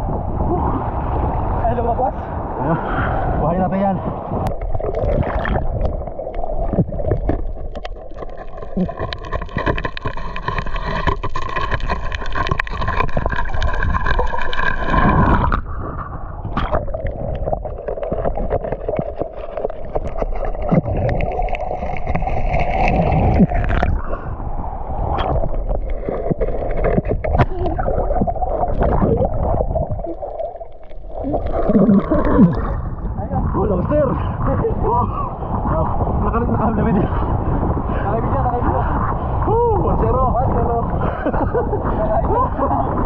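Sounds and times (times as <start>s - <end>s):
water gurgling underwater: 4.0s - 43.0s.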